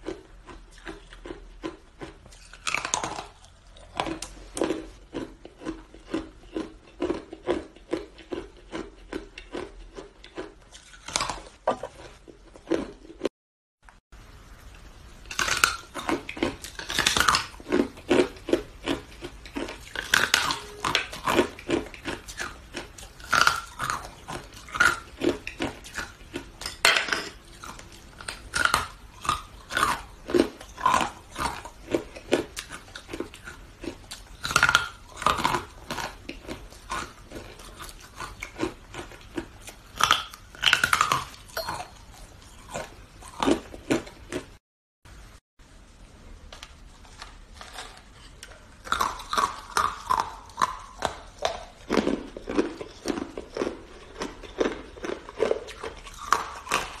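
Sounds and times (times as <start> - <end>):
ice crunching while chewed: 0.0 - 13.3, 15.3 - 44.6, 47.0 - 57.0.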